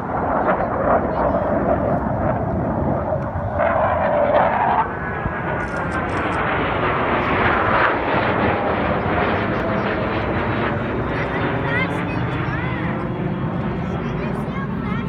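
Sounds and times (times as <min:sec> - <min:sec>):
jet flying past overhead: 0:00.0 - 0:15.0.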